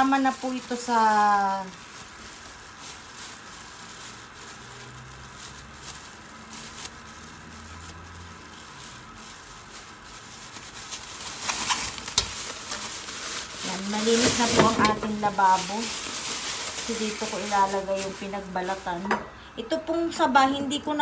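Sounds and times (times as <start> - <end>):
meat sizzling in a pot: 0.0 - 10.1, 10.7 - 18.9
plastic bag rustling: 0.0 - 19.2.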